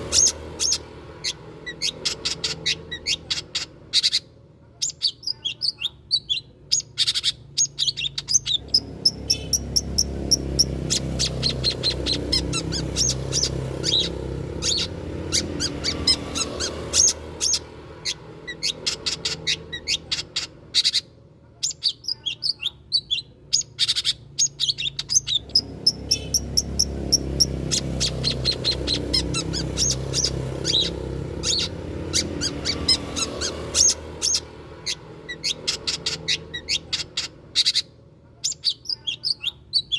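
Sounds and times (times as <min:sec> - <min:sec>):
bird song of sharp chirps: 0:00.0 - 0:39.9.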